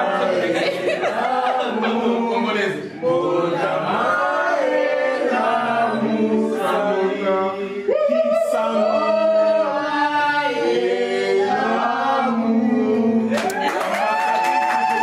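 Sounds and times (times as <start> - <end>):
group singing unaccompanied: 0.0 - 14.2.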